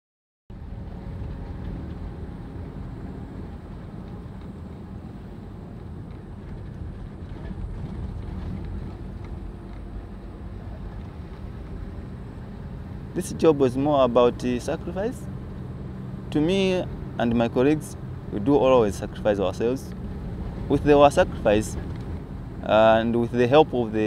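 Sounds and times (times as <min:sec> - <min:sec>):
vehicle engine rumble: 0:00.5 - 0:24.0.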